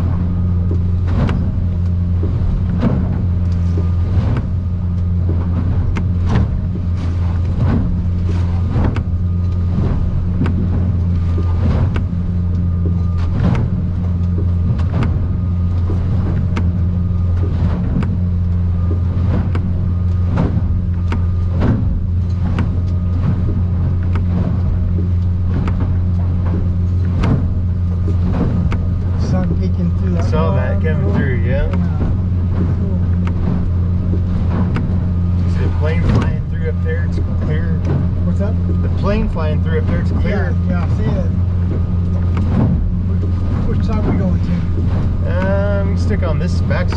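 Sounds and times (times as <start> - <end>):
boat motor droning: 0.0 - 46.9
hull slapping on waves: 0.0 - 46.9.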